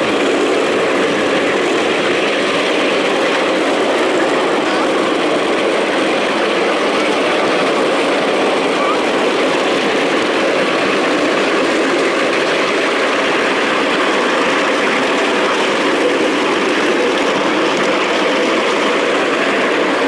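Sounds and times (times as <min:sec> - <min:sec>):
miniature train wheels rolling on rails: 0:00.0 - 0:20.0.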